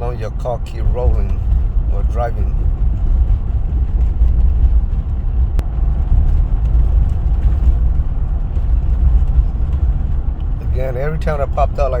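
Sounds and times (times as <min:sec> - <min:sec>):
road and engine noise in cabin: 0:00.0 - 0:12.0.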